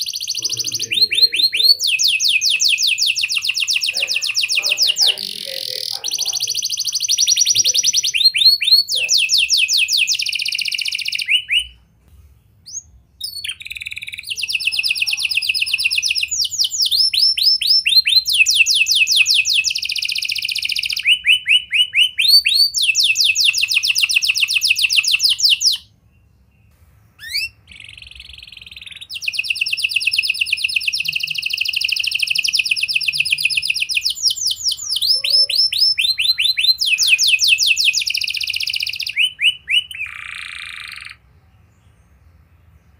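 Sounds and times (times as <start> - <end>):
canary singing rolling trills: 0.0 - 42.9.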